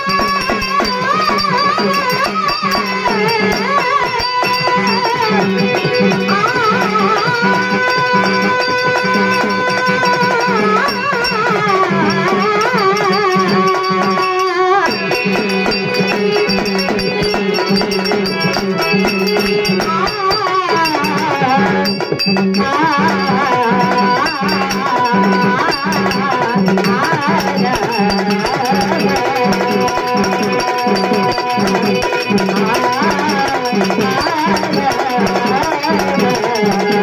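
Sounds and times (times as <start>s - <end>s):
hand drum beat: 0.0s - 37.0s
harmonium: 0.0s - 37.0s
woman singing through microphone: 0.0s - 37.0s.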